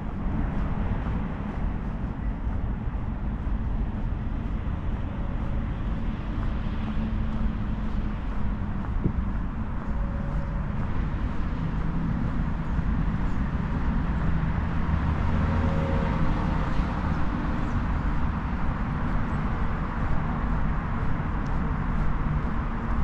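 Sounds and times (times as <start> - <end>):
road traffic hum: 0.0 - 23.0
vehicles passing: 0.0 - 23.0.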